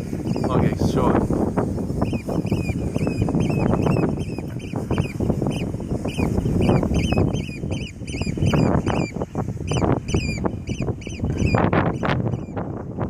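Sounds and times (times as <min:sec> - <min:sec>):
bird calling: 0:00.0 - 0:01.0, 0:02.0 - 0:12.7
wind buffeting microphone: 0:00.0 - 0:13.0.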